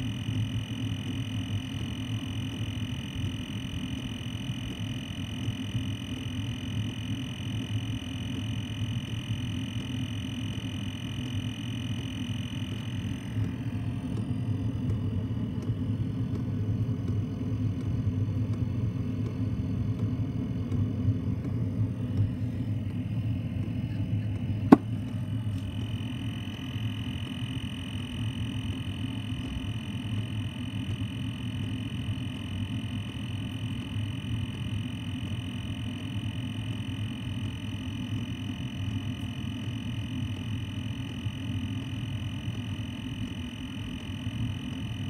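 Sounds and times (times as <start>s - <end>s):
thin high whine: 0.0s - 45.0s.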